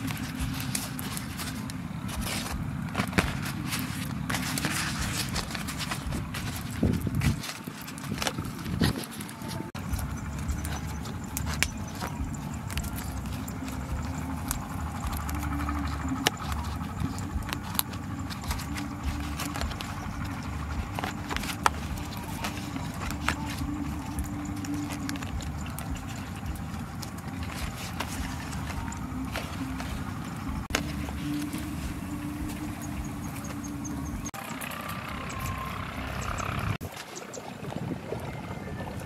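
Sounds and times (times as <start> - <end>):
steady low rumble: 0.0 - 34.4
leaf wrapping crinkling: 0.0 - 37.1.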